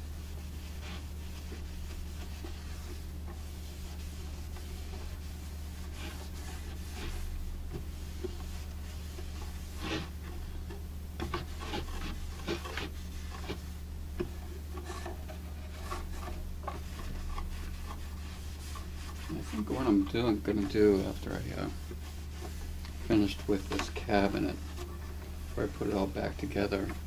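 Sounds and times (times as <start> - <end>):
cloth rubbing on wood: 0.0 - 27.0
low electrical hum: 0.0 - 27.0.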